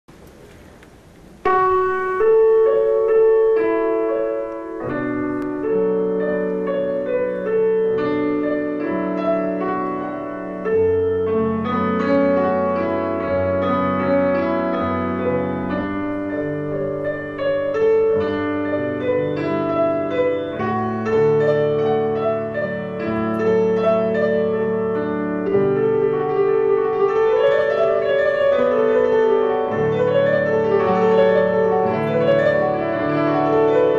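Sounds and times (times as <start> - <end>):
slow piano melody: 0.1 - 33.9.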